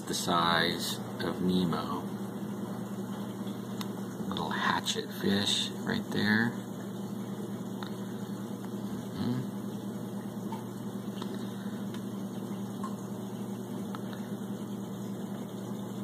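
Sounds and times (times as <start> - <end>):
aquarium equipment humming: 0.0 - 16.0.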